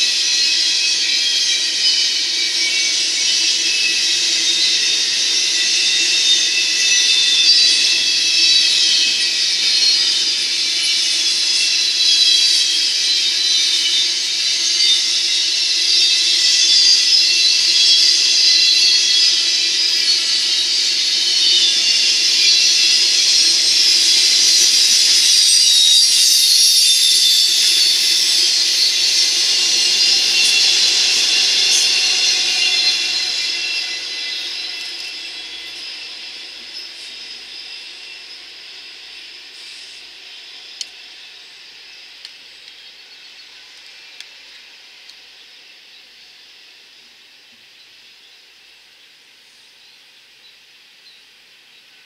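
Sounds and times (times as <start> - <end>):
steel wheels hissing on rail: 0.0 - 52.0.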